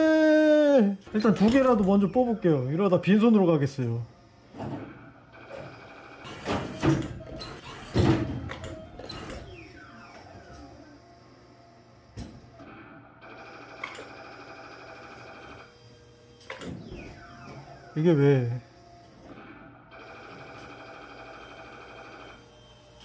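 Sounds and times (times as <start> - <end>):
claw machine motors whirring: 0.0 - 23.0.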